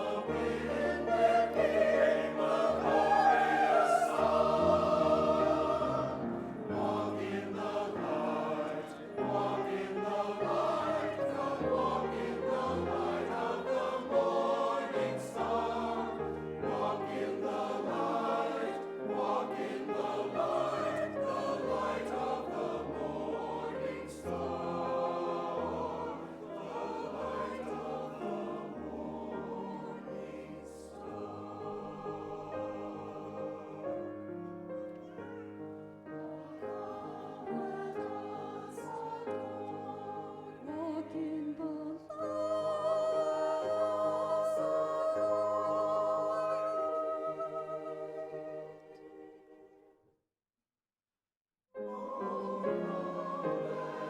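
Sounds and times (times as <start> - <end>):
choir singing with accompaniment: 0.0 - 49.8, 51.8 - 54.0.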